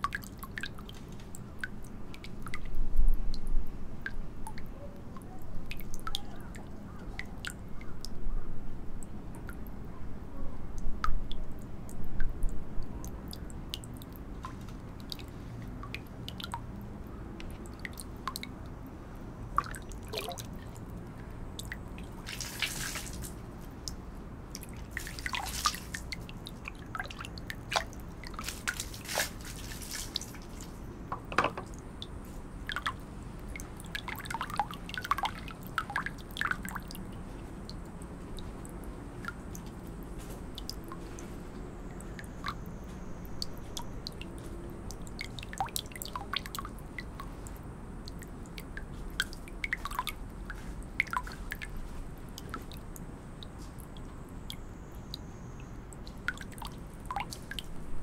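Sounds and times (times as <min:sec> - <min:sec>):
water dripping and splashing: 0:00.0 - 0:08.2, 0:10.8 - 0:58.0.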